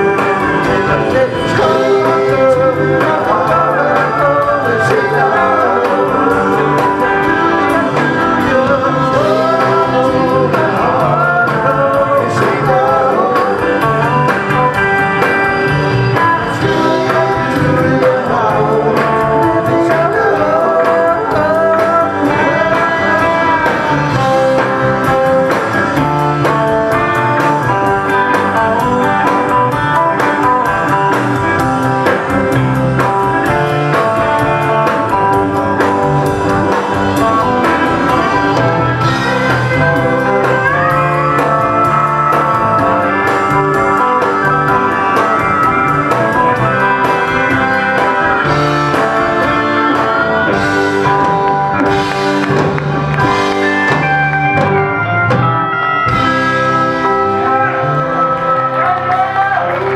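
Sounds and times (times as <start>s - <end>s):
country-rock band playing: 0.0s - 59.9s
sliding guitar lead notes: 0.0s - 59.9s.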